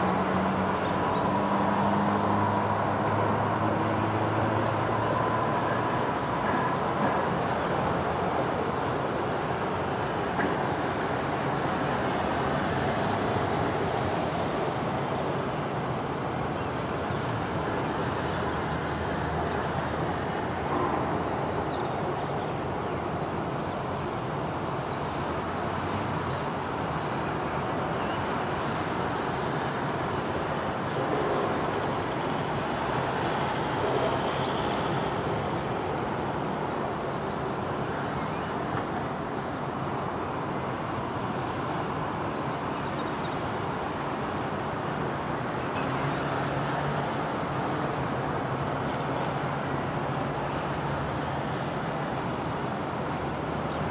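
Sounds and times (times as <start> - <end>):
road traffic hum: 0.0 - 53.9.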